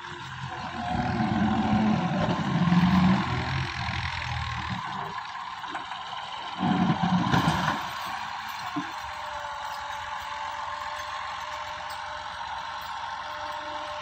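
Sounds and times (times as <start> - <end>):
tractor diesel engine working hard: 0.0 - 14.0.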